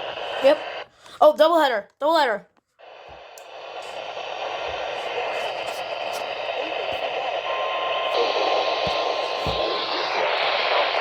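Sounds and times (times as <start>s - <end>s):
radio static hiss: 0.0s - 0.9s, 2.8s - 11.0s.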